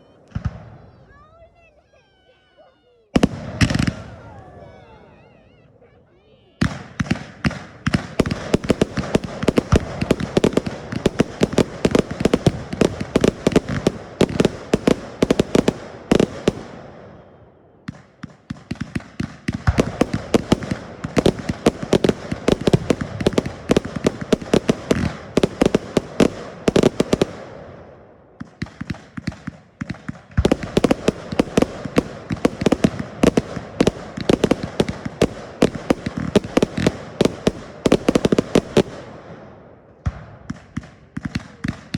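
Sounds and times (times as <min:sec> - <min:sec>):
fireworks bangs and crackles: 0:00.0 - 0:02.3, 0:03.1 - 0:41.9.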